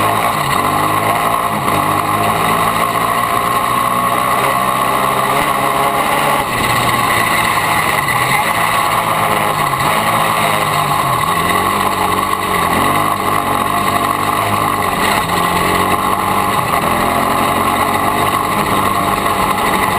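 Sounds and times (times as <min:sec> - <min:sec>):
quad engine revving: 0:00.0 - 0:19.9.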